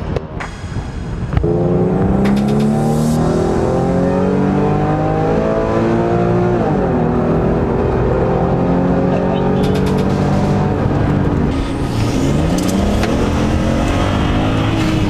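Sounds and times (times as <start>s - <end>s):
car engine accelerating hard: 0.4s - 15.0s.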